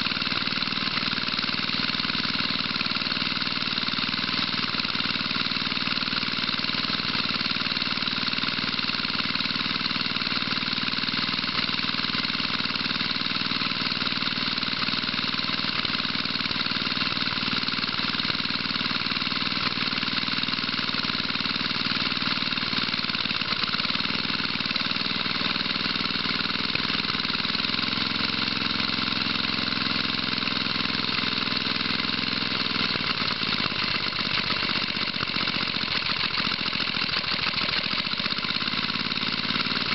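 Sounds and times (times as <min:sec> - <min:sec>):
single-cylinder engine running: 0:00.0 - 0:39.9.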